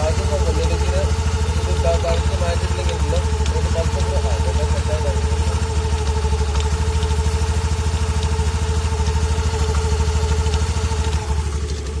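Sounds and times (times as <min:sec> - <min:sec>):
scooter engine idling with knocking: 0:00.0 - 0:12.0.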